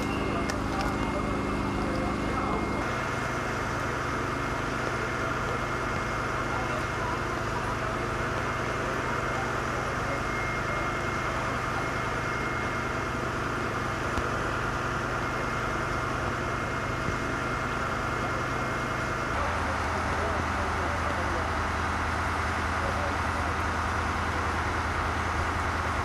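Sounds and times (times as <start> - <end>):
fire engine drone: 0.0 - 26.0.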